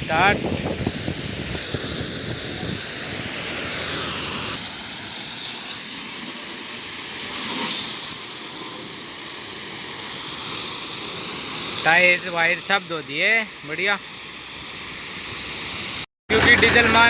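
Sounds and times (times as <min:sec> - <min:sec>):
pressure washer spraying: 0:00.0 - 0:16.1.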